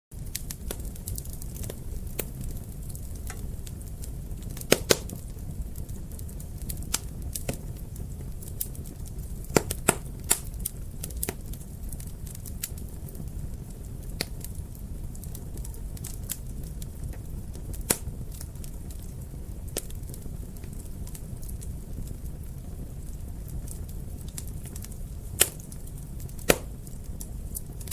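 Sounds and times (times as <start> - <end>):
fire crackling and popping: 0.1 - 27.9
flames rumbling: 0.1 - 27.9.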